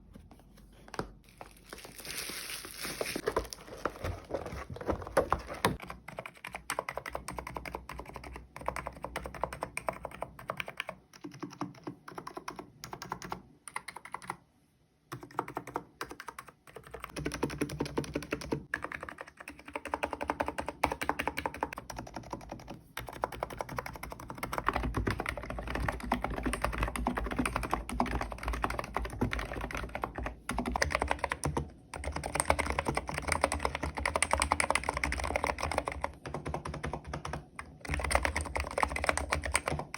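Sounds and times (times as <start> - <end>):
fast keyboard typing: 4.0 - 14.4, 15.1 - 39.9.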